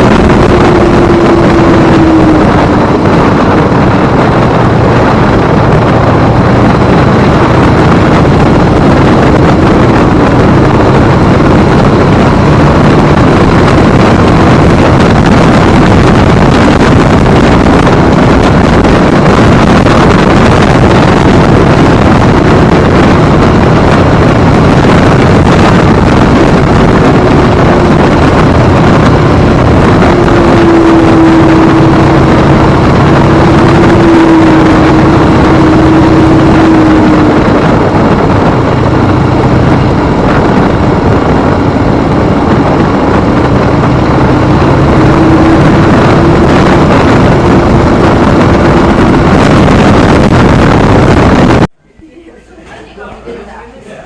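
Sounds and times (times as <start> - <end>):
motorcycle engine cruising: 0.0 - 52.0
wind noise on microphone: 0.0 - 54.0.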